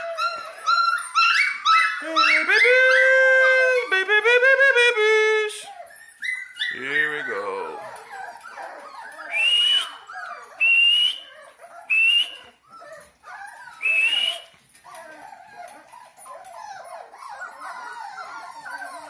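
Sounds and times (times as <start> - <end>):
puppies whimpering softly: 0.0 - 4.0, 5.5 - 19.0
puppies whining: 0.0 - 19.0.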